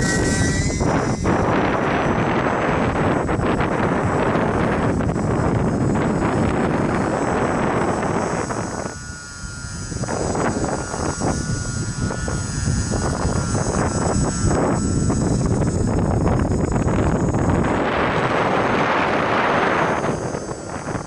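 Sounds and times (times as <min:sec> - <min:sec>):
small electric motor whine: 0:00.0 - 0:21.0
wind buffeting microphone: 0:00.0 - 0:21.0.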